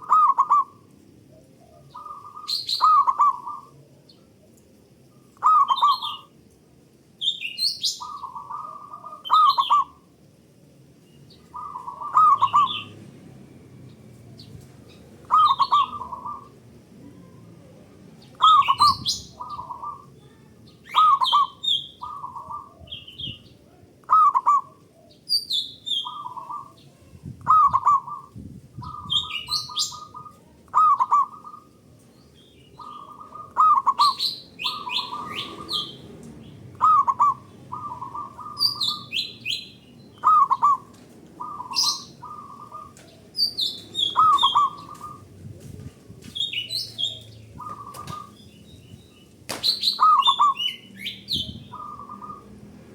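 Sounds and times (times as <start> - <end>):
dove cooing song: 0.0 - 4.5, 5.1 - 6.3, 7.6 - 10.2, 11.3 - 13.4, 14.1 - 52.9
small birds chirping: 0.0 - 52.9.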